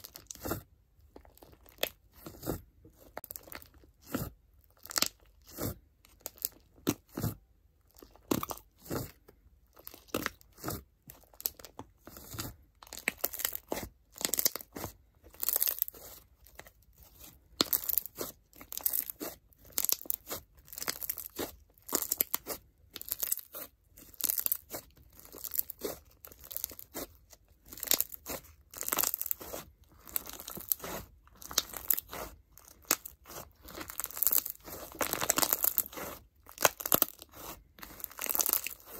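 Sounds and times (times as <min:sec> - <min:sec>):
slime crunching and crackling: 0:00.0 - 0:38.9.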